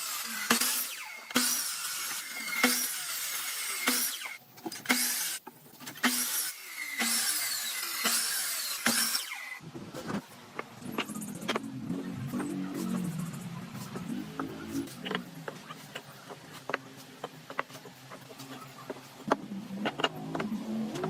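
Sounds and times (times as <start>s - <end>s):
power tools working wood: 0.0s - 5.4s, 6.0s - 9.6s, 10.6s - 21.0s.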